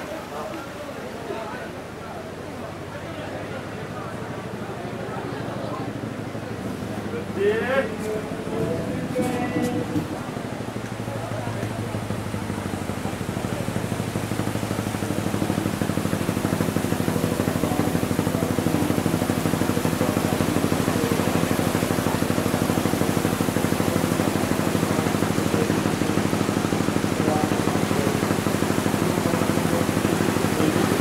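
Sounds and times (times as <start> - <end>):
small engine running: 3.6 - 31.0.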